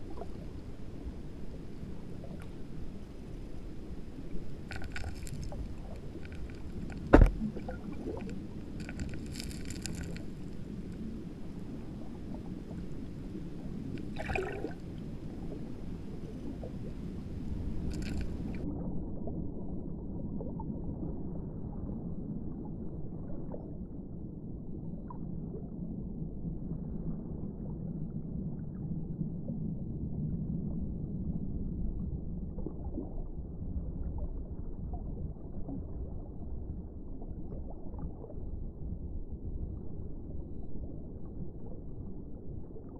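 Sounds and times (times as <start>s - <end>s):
low rumbling water: 0.0s - 42.9s.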